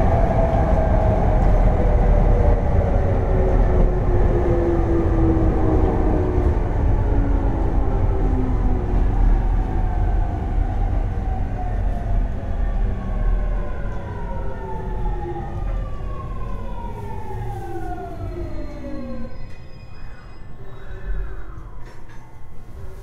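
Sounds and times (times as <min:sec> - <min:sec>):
train running gear rumble: 0:00.0 - 0:20.4.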